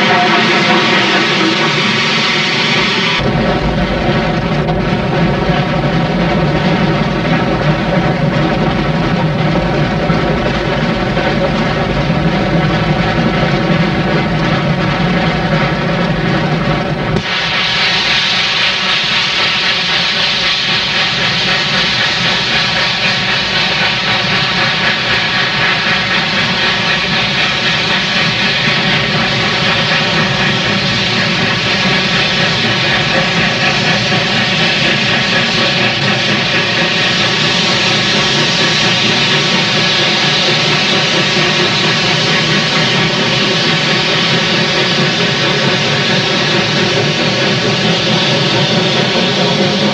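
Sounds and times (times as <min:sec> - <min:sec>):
steam locomotive exhaust roar: 0:00.0 - 0:49.9.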